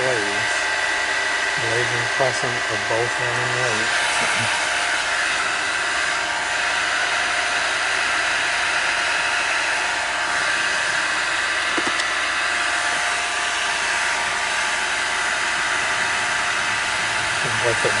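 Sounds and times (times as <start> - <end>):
ventilation fan air rushing: 0.0 - 18.0.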